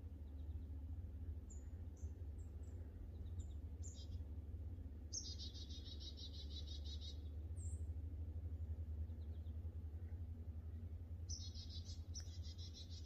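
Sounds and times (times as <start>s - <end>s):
songbird trill: 0.0s - 13.0s
steady low rumble: 0.0s - 13.0s.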